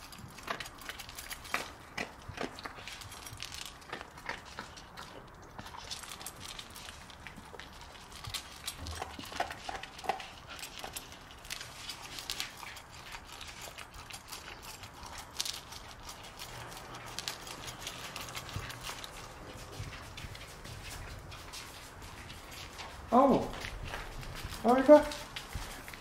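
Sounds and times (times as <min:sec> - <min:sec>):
dog crunching kibble: 0:00.0 - 0:26.0
kibble clicking against bowl: 0:00.0 - 0:26.0.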